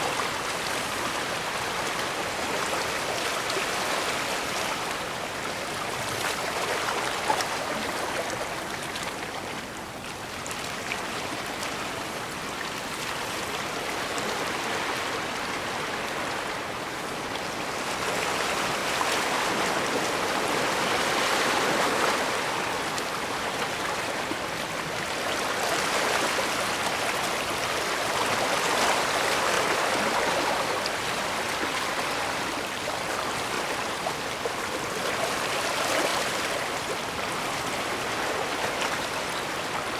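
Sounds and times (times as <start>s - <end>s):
small waves washing on shore: 0.0s - 39.9s.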